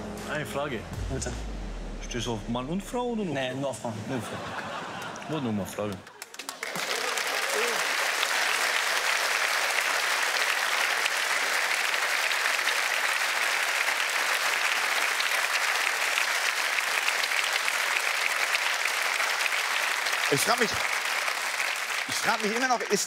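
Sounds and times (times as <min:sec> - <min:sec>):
audience applauding: 0:04.5 - 0:23.0.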